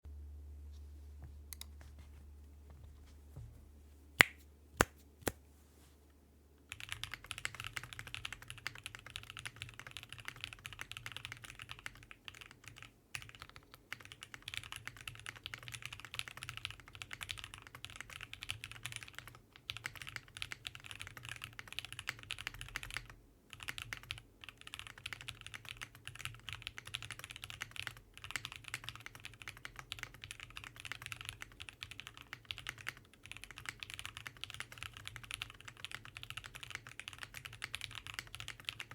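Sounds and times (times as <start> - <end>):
mechanical keyboard typing: 6.7 - 38.9.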